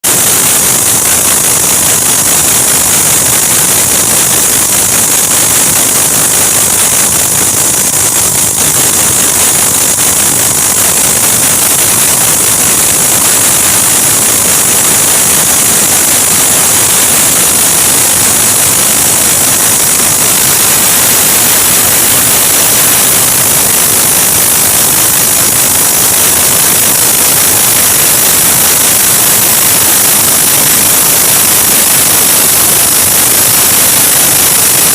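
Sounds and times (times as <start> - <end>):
core drill running: 0.0 - 34.9.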